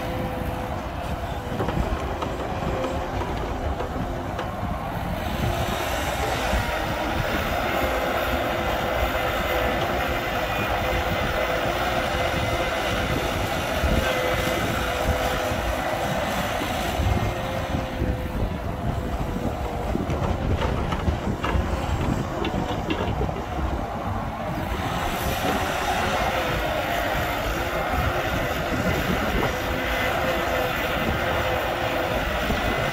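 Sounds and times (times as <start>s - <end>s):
excavator diesel engine: 0.0s - 32.9s
hydraulic whine: 0.0s - 32.9s.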